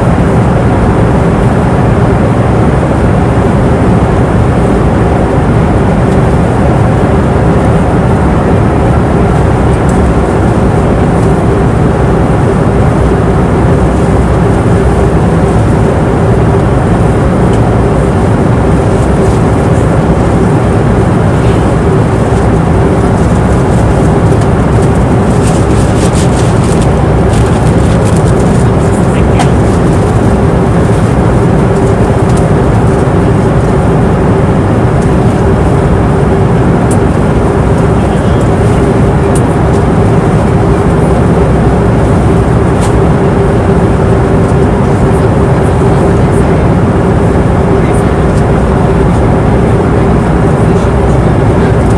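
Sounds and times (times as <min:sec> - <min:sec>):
airliner engine and airflow rumble: 0:00.0 - 0:51.9
constant hum tone: 0:00.0 - 0:51.9.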